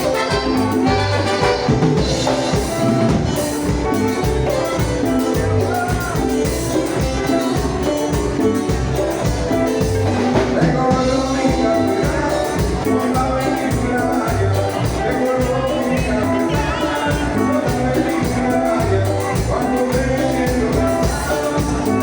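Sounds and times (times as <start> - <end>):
band playing latin dance music: 0.0 - 22.0.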